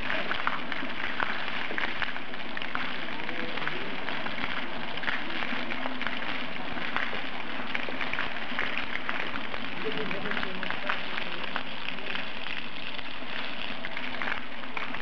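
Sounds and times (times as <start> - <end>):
fountain water splashing on paving: 0.0 - 15.0
water drips and patters: 0.0 - 15.0.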